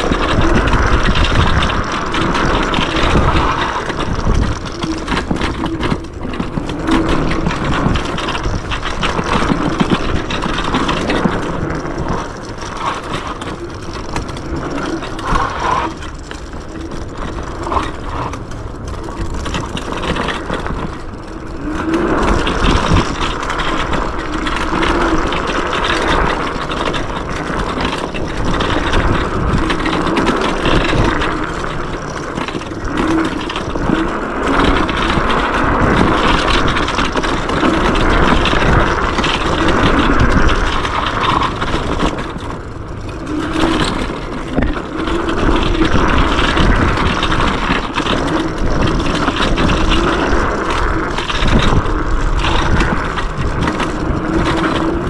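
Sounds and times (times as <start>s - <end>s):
knocks and rattles from bumps: 0.0s - 55.0s
wind and tyre rushing: 0.0s - 55.0s.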